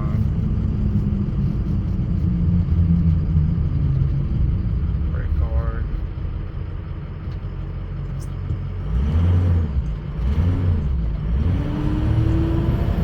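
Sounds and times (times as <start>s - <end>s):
pickup truck engine rumble: 0.0s - 13.0s.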